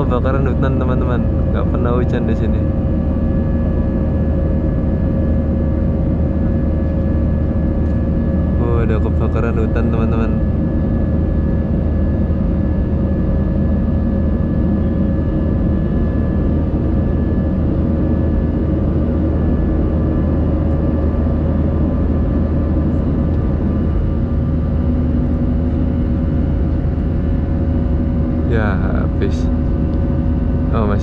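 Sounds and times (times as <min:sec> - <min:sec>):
jet engine and airflow rumble: 0:00.0 - 0:31.0.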